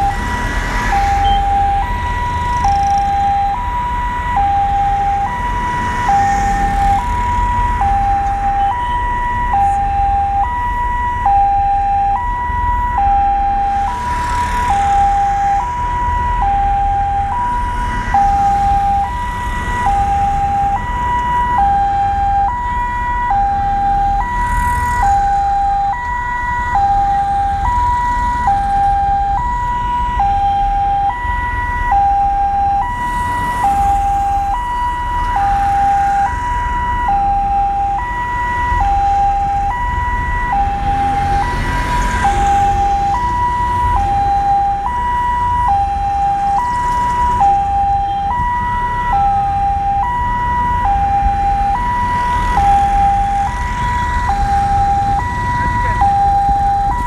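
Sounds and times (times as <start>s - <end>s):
road and engine rumble: 0.0s - 57.0s
two-tone siren wail: 0.0s - 57.0s.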